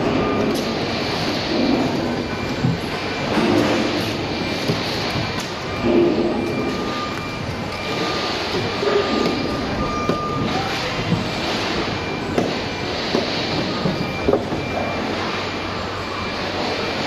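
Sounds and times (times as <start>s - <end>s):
warehouse noise: 0.0s - 17.0s.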